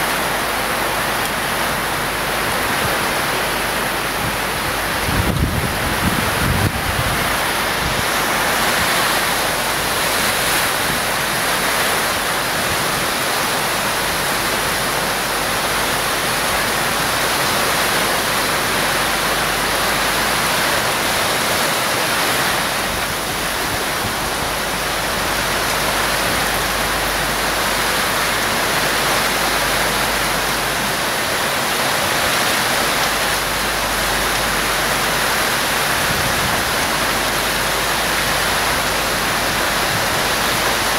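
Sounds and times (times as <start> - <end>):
heavy rain pouring: 0.0 - 40.9
wind: 0.0 - 40.9.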